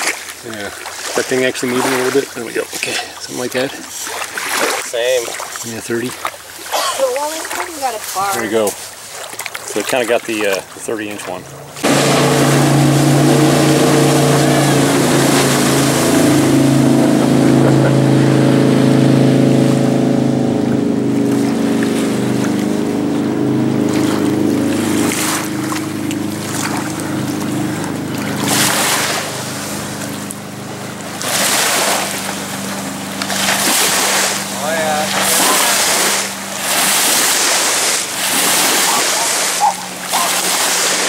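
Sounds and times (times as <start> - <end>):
waves washing onto sand: 0.0 - 20.2, 20.8 - 41.0
jet boat engine drone: 0.0 - 41.0.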